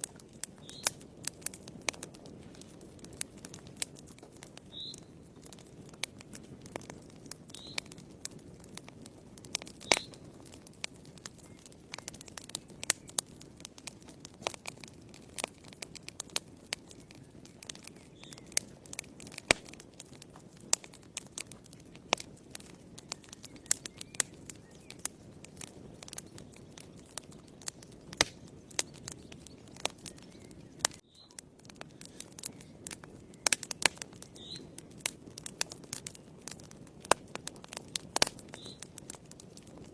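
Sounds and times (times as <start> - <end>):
fire crackling and popping: 0.0 - 39.9
low rush of flame: 0.0 - 39.9.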